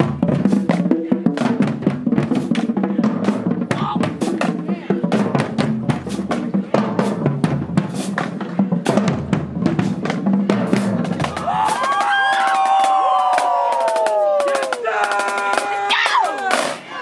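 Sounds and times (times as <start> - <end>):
snare and bass drums: 0.0 - 16.9.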